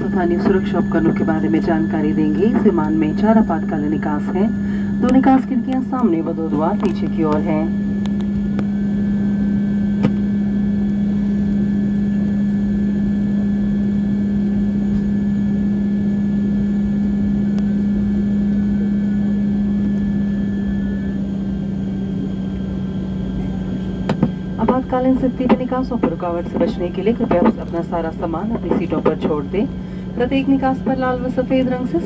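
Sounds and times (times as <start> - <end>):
high engine whine: 0.0 - 32.0
propeller engine drone: 0.0 - 32.0.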